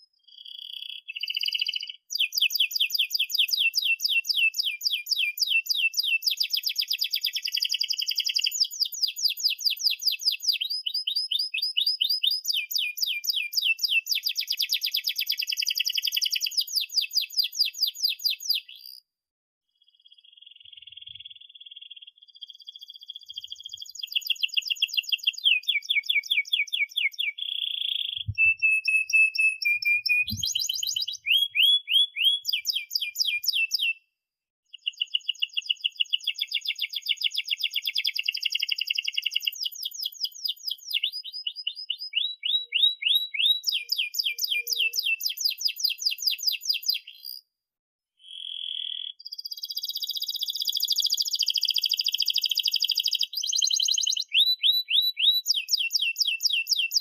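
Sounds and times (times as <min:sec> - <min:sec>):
canary singing trilled song: 0:00.2 - 0:19.0, 0:19.8 - 0:34.1, 0:34.7 - 0:47.5, 0:48.2 - 0:57.0.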